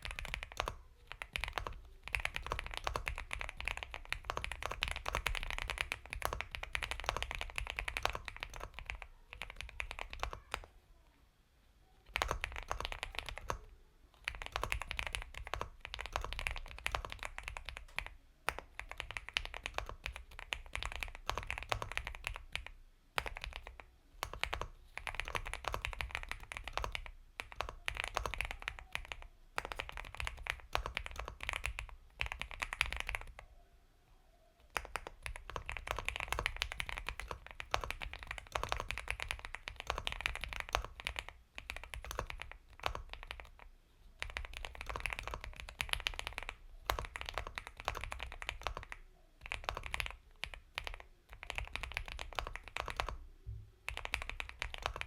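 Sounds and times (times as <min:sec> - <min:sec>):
fast typing on mechanical keyboard: 0:00.0 - 0:10.7, 0:12.1 - 0:33.4, 0:34.7 - 0:53.2, 0:53.9 - 0:55.0.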